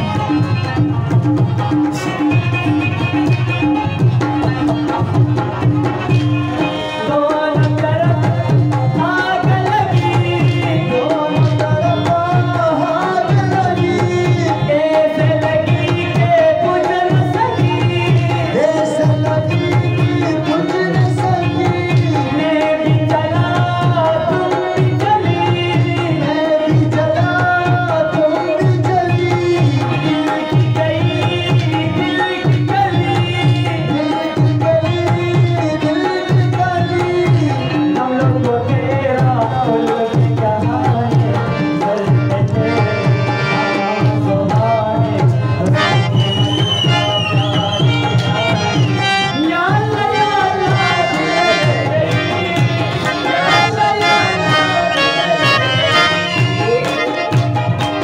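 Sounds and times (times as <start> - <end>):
hand drum beat: 0.0 - 6.7, 7.5 - 58.0
harmonium: 0.0 - 58.0
man singing: 0.0 - 58.0.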